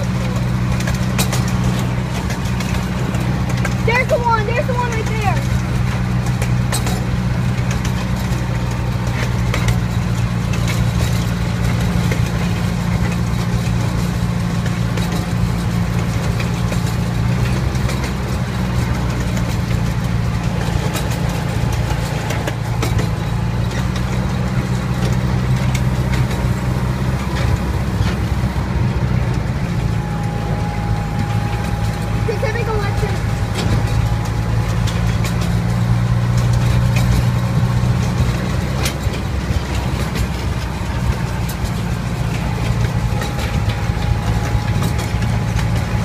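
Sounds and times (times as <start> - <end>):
light clicks and rattles: 0.0 - 46.0
miniature train engine hum: 0.0 - 46.0.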